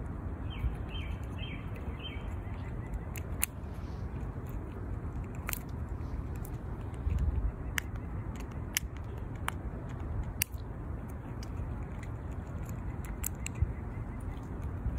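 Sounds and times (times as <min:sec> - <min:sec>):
low steady rumble: 0:00.0 - 0:14.9
squirrel gnawing crunching clicks: 0:00.0 - 0:14.9.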